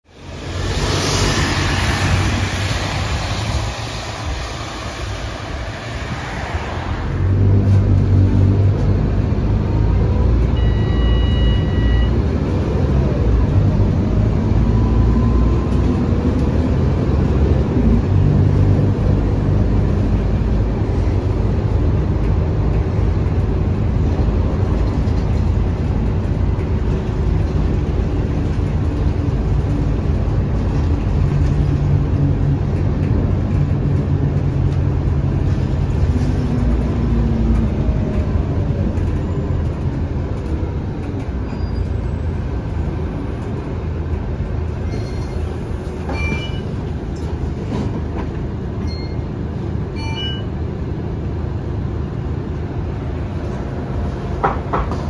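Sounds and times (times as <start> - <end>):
bus diesel engine droning: 5.1 - 55.0.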